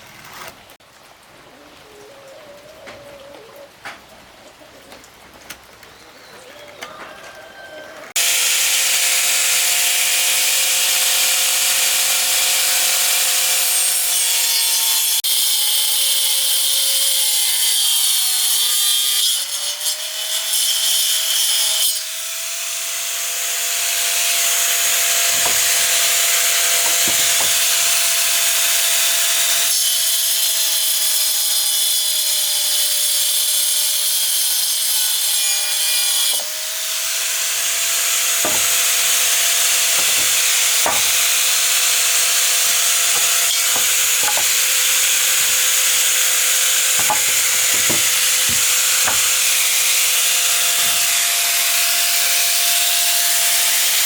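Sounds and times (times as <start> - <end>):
power saw cutting wood: 0.0 - 0.8, 8.1 - 54.0.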